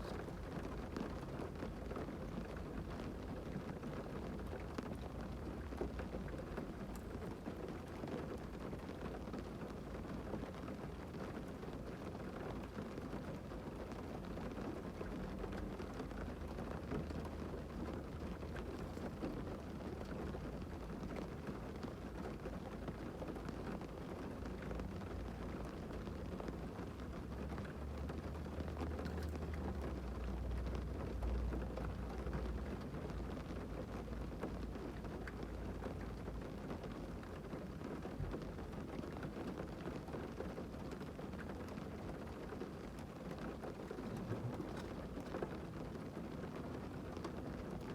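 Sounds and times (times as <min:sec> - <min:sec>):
heavy rain drumming on car roof: 0:00.0 - 0:47.9.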